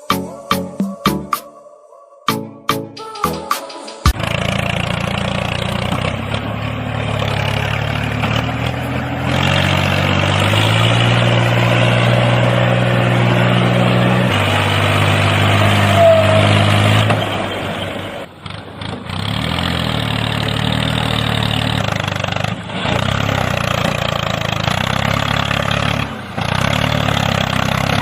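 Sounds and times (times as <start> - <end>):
tractor engine humming: 3.0 - 28.0.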